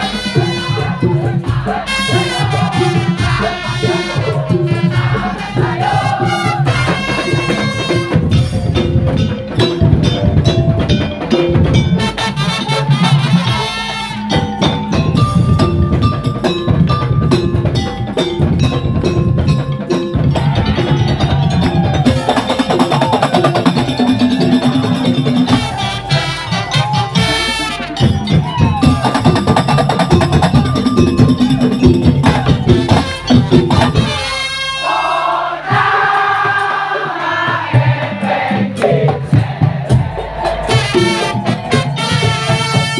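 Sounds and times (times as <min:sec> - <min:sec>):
pitched melody line: 0:00.0 - 0:35.4
drums and wooden percussion: 0:00.0 - 0:42.9.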